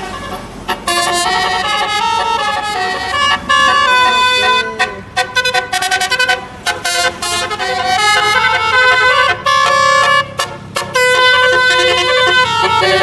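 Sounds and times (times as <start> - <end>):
multi-trumpet bus horn melody: 0.0 - 13.0.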